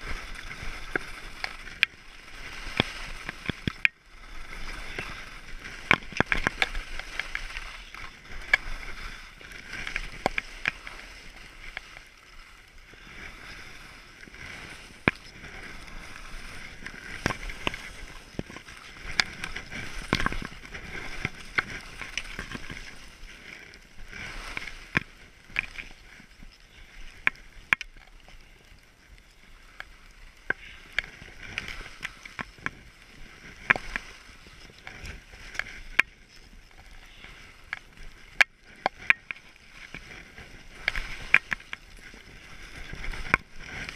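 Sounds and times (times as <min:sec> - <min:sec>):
skis scraping over snow: 0:00.0 - 0:43.9.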